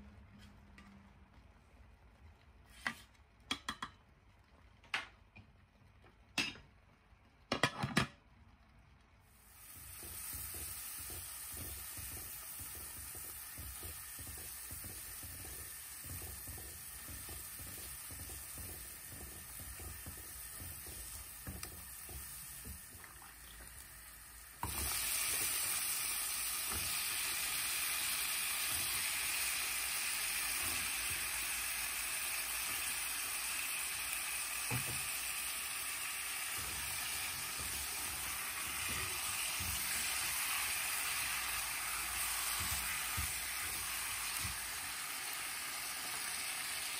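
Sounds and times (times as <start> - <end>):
food sizzling in a pan: 9.2 - 46.9.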